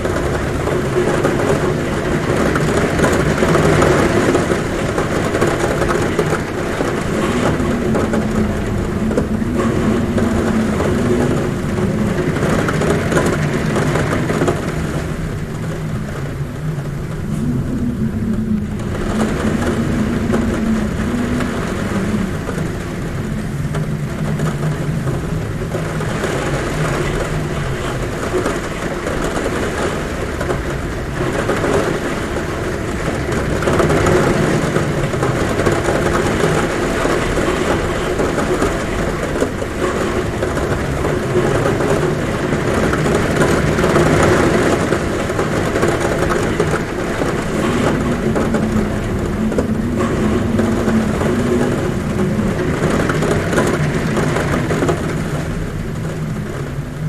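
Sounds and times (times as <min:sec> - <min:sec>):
heavy rain drumming on a roof: 0:00.0 - 0:57.0
wind humming at a window: 0:00.0 - 0:57.0.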